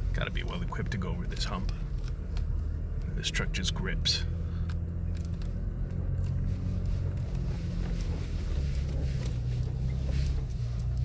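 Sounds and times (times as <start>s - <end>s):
truck engine at low revs: 0.0s - 11.0s.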